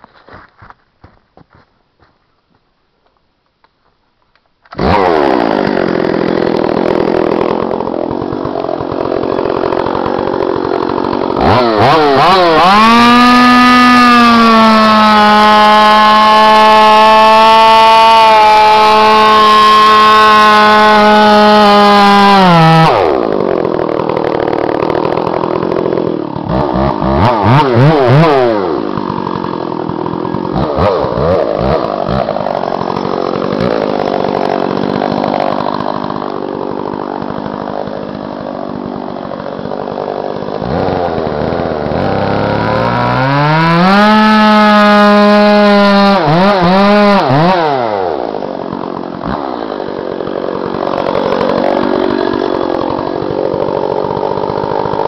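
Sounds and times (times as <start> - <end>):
chainsaw cutting wood: 0.0 - 3.2, 4.3 - 55.0.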